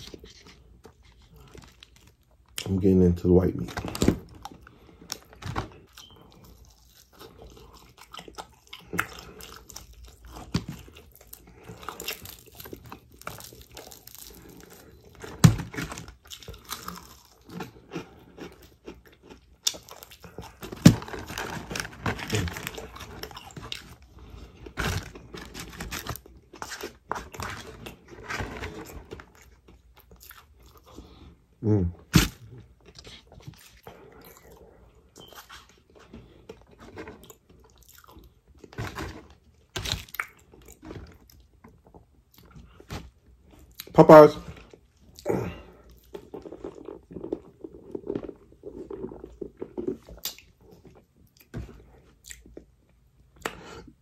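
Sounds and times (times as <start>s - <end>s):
crunching fried chicken: 0.0s - 34.6s, 35.2s - 44.0s, 44.6s - 52.7s.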